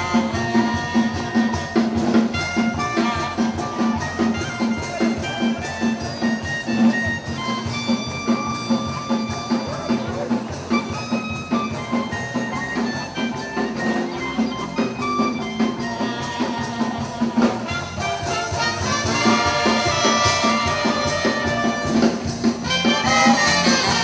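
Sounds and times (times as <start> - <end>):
quick percussion beat: 0.0 - 24.0
saxophone and brass melody: 0.0 - 24.0.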